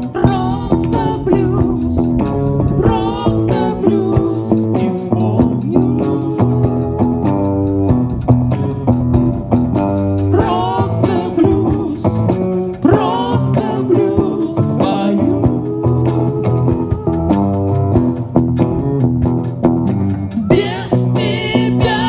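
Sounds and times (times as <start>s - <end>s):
live rock band playing: 0.0s - 22.0s
sliding lead guitar line: 0.0s - 22.0s.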